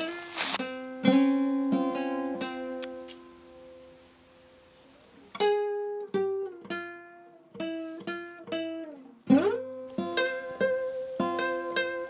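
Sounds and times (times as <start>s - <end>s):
plucked string melody: 0.0s - 4.5s, 5.3s - 12.0s.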